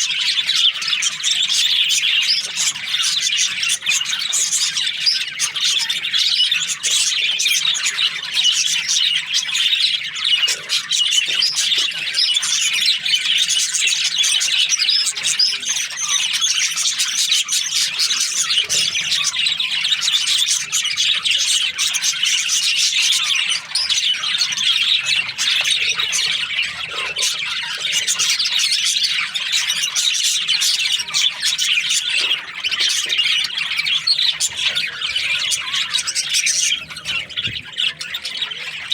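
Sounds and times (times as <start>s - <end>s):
budgerigar flock chattering: 0.0s - 38.9s.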